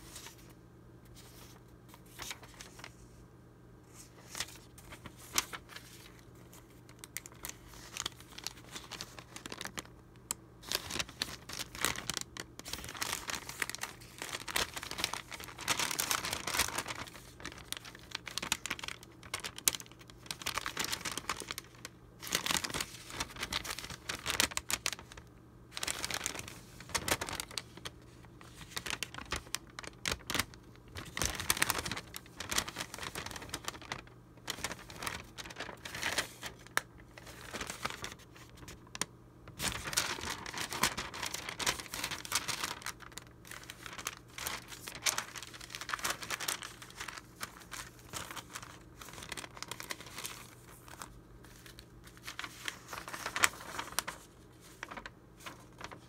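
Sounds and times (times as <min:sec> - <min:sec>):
paper rustling and crinkling: 0:00.0 - 0:03.2, 0:03.9 - 0:56.0.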